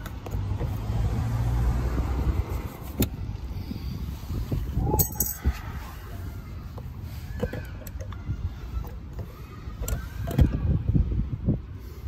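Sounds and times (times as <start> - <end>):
wind rumbling on microphone: 0.4 - 12.0.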